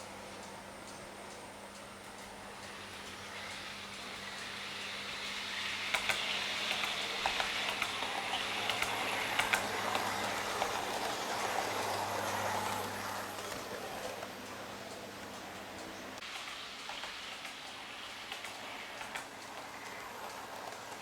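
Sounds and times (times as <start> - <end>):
model train rolling on track: 0.0 - 21.0
wheel clicks: 2.2 - 21.0.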